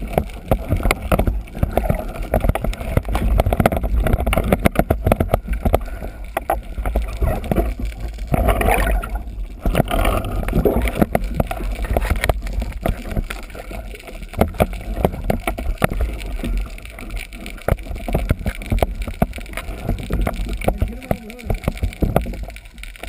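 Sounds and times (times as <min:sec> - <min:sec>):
muffled underwater rumble: 0:00.0 - 0:23.0
sharp underwater clicks and knocks: 0:00.0 - 0:23.0.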